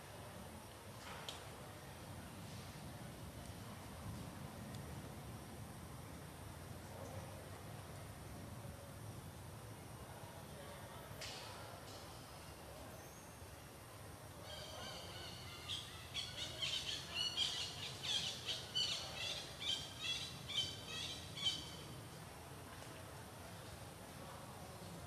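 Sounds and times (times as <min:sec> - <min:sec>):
faint outdoor background noise: 0:00.0 - 0:25.0.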